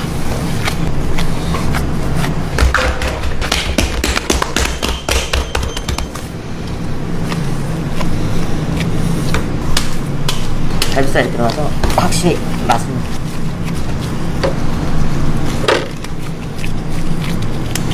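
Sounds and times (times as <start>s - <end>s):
hands kneading meat in metal bowl: 0.0s - 17.9s
steady low hum: 0.0s - 17.9s.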